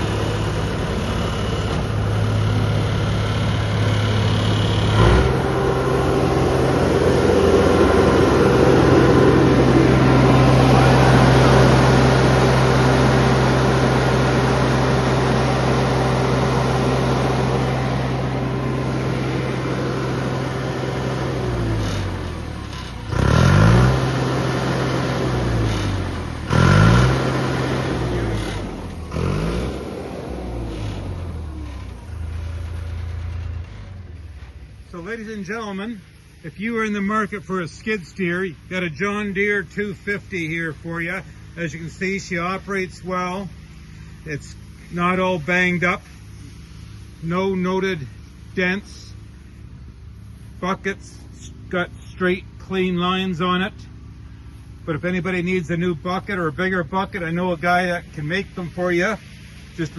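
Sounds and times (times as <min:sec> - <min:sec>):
diesel engine revving: 0:00.0 - 0:59.9.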